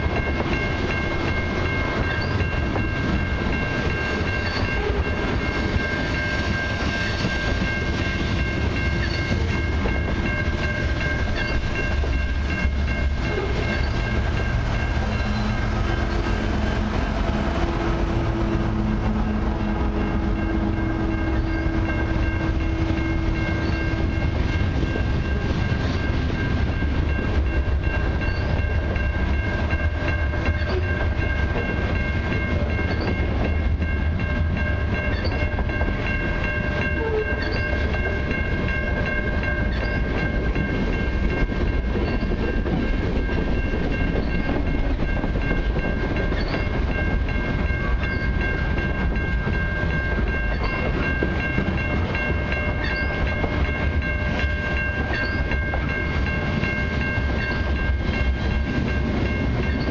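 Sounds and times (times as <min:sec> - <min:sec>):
train clatter: 0:00.0 - 0:59.9
train wheels rumbling on rail: 0:00.0 - 0:59.9.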